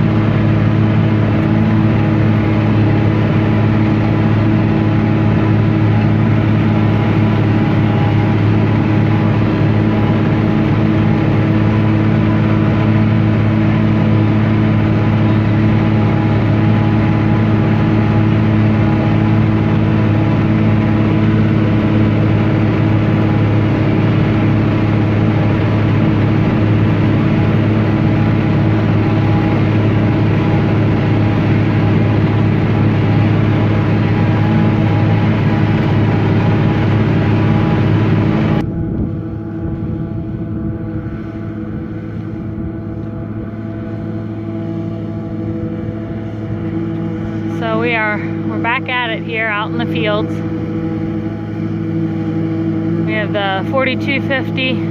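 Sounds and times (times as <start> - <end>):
tractor diesel engine droning: 0.0 - 54.9.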